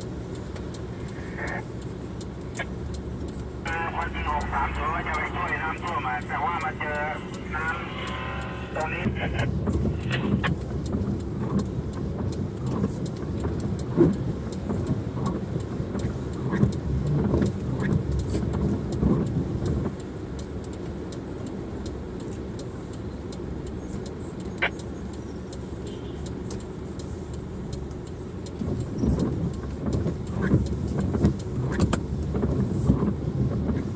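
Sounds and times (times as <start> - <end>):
car engine and road noise: 0.0 - 33.9
sharp ticks: 0.0 - 33.9.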